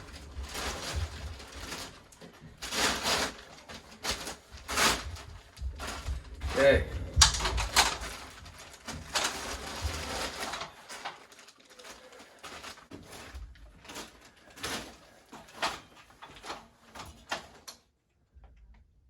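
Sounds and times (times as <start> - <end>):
handling rustling: 0.0 - 17.6.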